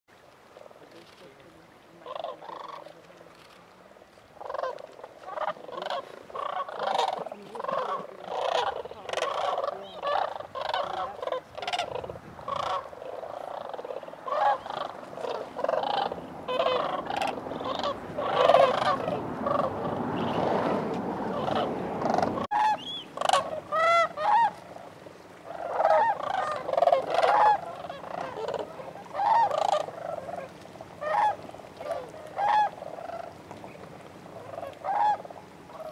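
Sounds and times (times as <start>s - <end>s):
cranes calling: 2.0s - 3.5s, 4.4s - 35.9s.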